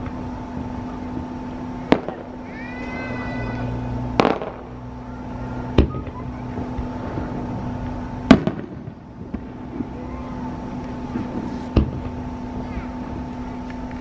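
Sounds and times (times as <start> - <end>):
firework shells bursting: 0.0 - 14.0
steady low hum: 0.0 - 14.0.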